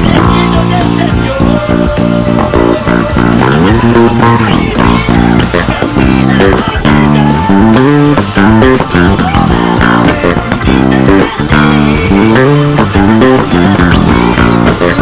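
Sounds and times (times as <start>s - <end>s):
electric bass guitar plucked: 0.0s - 15.0s
full band backing track: 0.0s - 15.0s.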